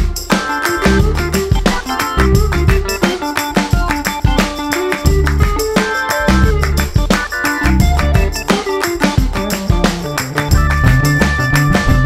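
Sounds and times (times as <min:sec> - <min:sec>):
plucked-string and percussion music: 0:00.0 - 0:12.0.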